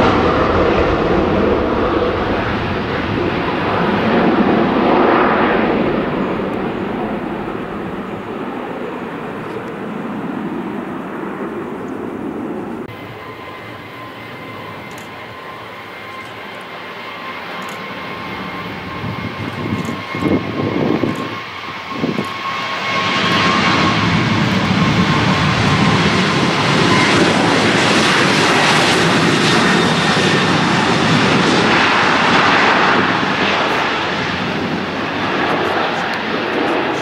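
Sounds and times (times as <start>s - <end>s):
heavy jet engine roar: 0.0s - 37.0s
jet engine fan whine: 0.0s - 37.0s.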